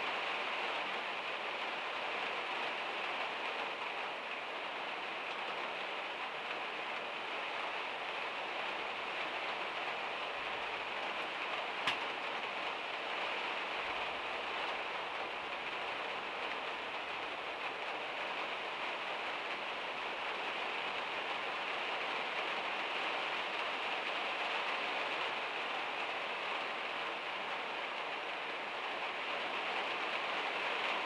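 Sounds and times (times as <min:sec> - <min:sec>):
heavy rain on metal roof: 0:00.0 - 0:31.0.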